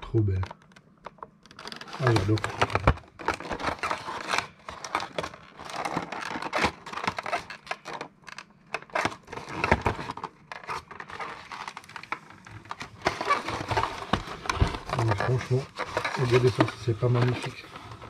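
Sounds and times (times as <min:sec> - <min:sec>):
packaging crinkling and rustling: 0:00.2 - 0:18.0
packaging tearing: 0:01.5 - 0:18.0.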